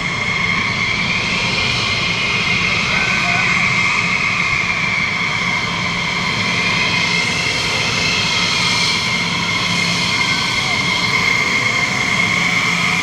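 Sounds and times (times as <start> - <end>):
jet engine running: 0.0 - 13.0.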